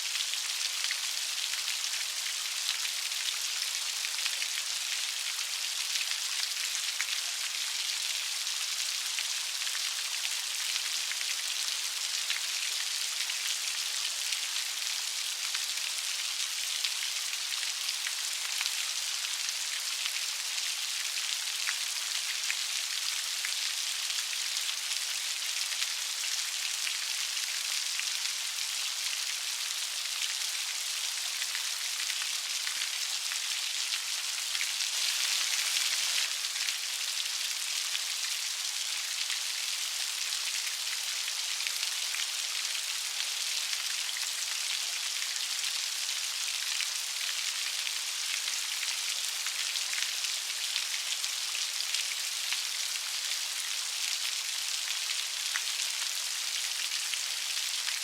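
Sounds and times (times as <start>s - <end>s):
light rain pattering: 0.0s - 58.0s.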